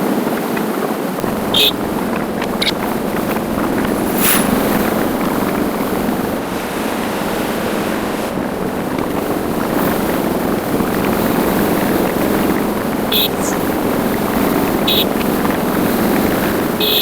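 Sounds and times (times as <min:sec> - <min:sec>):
road noise: 0:00.2 - 0:17.0
wind rush over microphone: 0:00.9 - 0:17.0
motorcycle engine running: 0:01.1 - 0:17.0.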